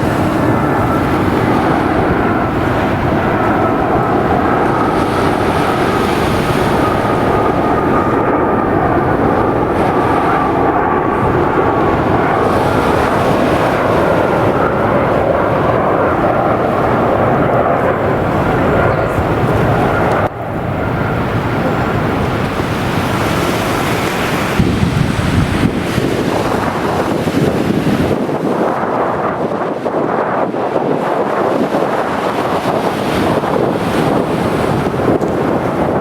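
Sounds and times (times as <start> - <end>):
airliner engines running: 0.0 - 36.0.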